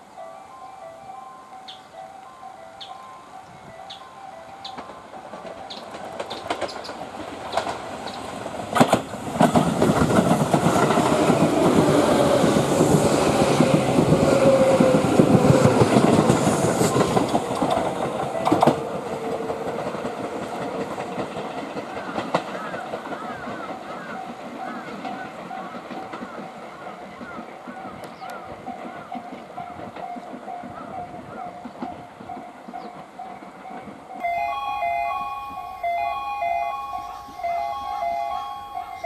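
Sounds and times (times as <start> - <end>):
electric train passing: 0.0 - 39.0.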